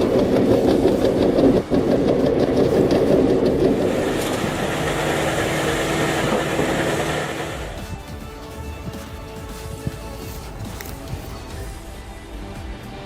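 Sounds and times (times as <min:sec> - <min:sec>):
heavy machine engine running: 0:00.0 - 0:12.8.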